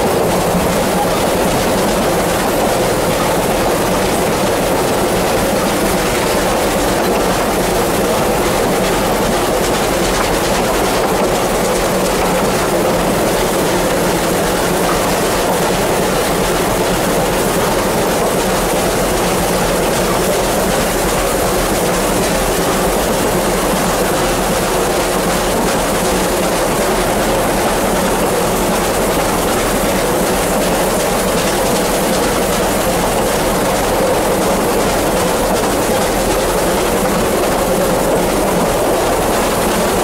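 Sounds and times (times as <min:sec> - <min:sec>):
train wheels clacking on track: 0:00.0 - 0:40.0.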